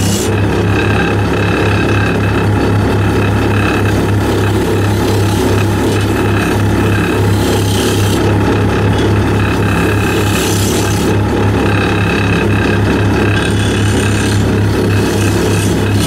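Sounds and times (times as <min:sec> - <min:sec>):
lathe motor hum: 0:00.0 - 0:16.0
tool scraping spinning wood: 0:00.0 - 0:16.0.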